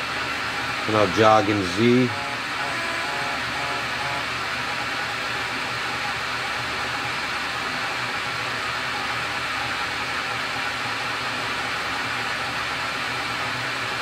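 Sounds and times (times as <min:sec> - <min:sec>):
lathe whirring: 0:00.0 - 0:14.0.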